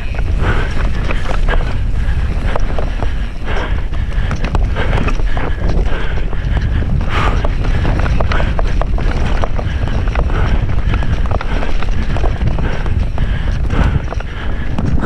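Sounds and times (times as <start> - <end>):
bike rattles and knocks: 0.0 - 15.0
bike tyres rumbling on dirt: 0.0 - 15.0
wind buffeting microphone: 0.0 - 15.0.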